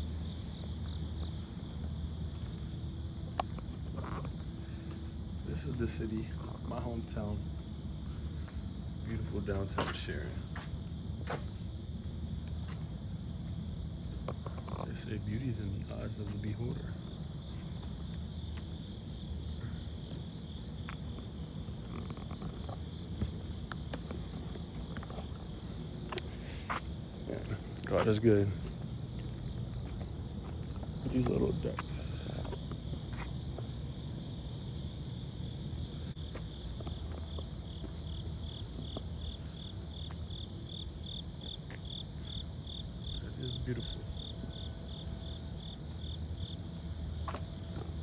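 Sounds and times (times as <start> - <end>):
insect chorus buzzing: 0.0 - 48.0
low outdoor rumble: 0.0 - 48.0.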